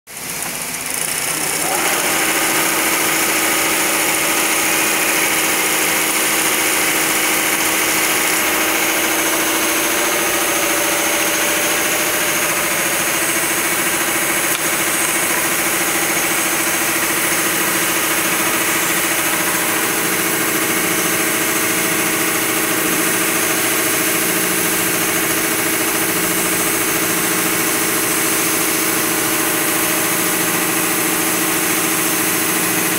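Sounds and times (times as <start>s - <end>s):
sewing machine running: 0.1s - 32.9s.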